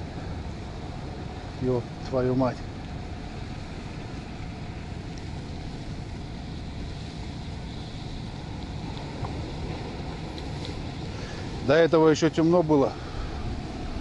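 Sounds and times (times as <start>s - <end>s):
motorboat engine rumble: 0.0s - 14.0s.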